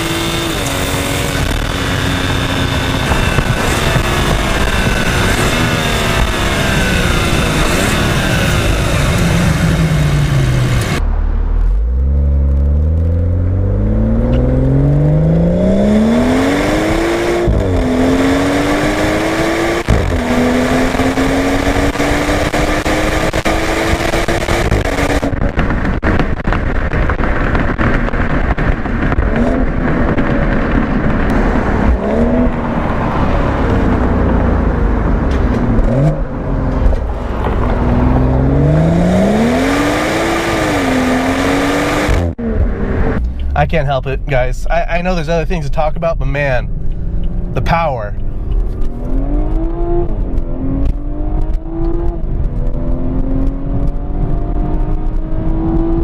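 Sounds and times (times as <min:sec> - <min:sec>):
car engine revving with upshifts: 0:00.0 - 0:56.0.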